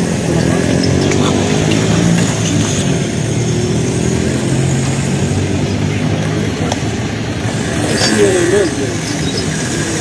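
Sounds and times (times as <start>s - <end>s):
motor vehicle engine running: 0.0s - 10.0s
street noise: 0.0s - 10.0s.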